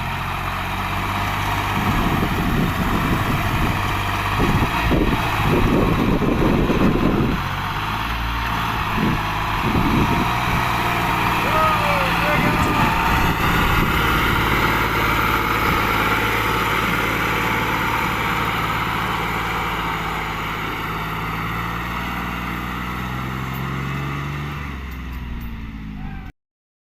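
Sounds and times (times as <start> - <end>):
tractor diesel engine running: 0.0 - 26.3.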